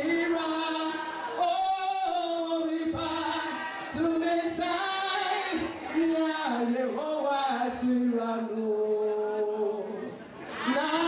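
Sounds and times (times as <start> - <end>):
group singing along: 0.0 - 8.8, 9.9 - 11.0
woman singing into a microphone: 0.0 - 11.0.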